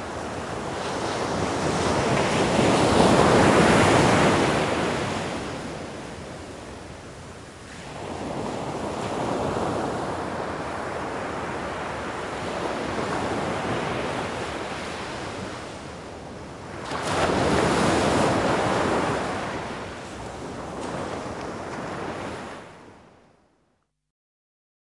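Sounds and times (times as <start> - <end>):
ocean waves washing in: 0.0 - 23.2.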